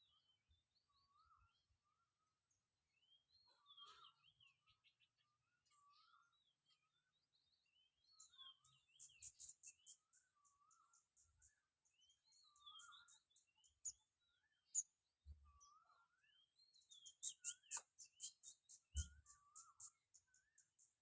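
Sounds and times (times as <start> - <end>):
birds singing faintly: 0.0 - 21.0.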